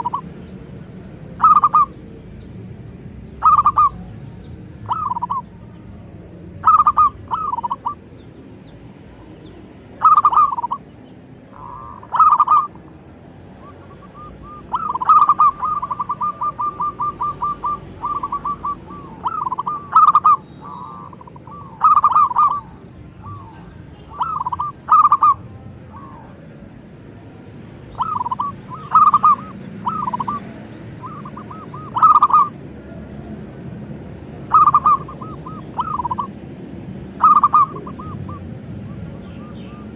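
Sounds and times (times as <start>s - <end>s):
dove cooing: 0.0s - 2.3s, 3.3s - 8.2s, 9.2s - 26.6s, 27.9s - 33.6s, 34.2s - 36.4s, 37.0s - 39.9s.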